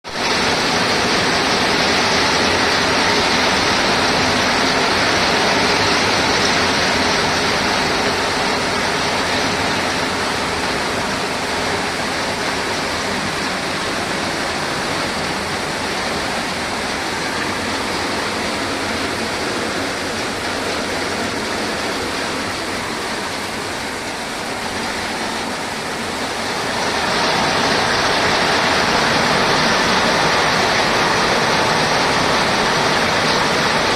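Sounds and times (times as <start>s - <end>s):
rain falling: 0.1s - 33.9s.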